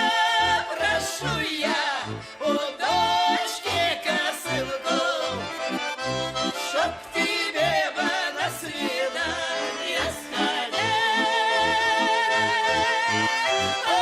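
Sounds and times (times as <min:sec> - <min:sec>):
accordion playing folk tune: 0:00.0 - 0:14.0.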